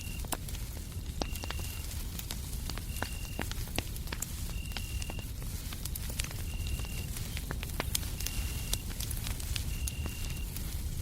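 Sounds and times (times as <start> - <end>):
low white-noise rumble: 0.0 - 11.0
wood fire crackling: 0.0 - 11.0.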